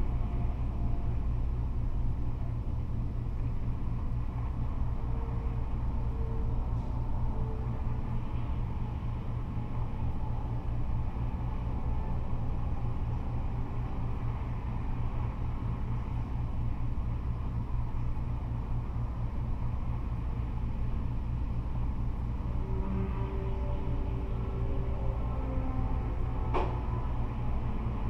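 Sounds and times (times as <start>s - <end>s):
freeway traffic rumble: 0.0s - 28.0s.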